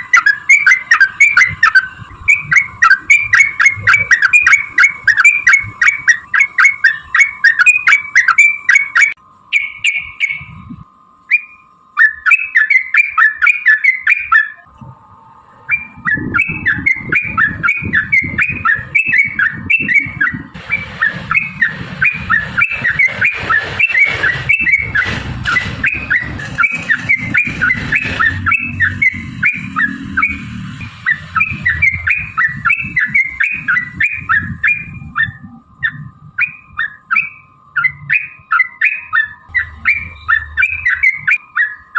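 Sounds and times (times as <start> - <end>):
low rumbling noise: 0.0 - 12.0, 14.6 - 41.9
bulbuls singing chirpy notes: 0.0 - 41.9.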